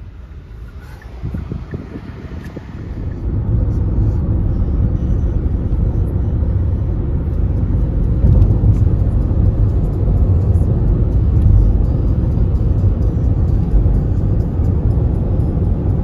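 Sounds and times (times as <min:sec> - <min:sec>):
car tyre and engine rumble: 0:00.0 - 0:16.0.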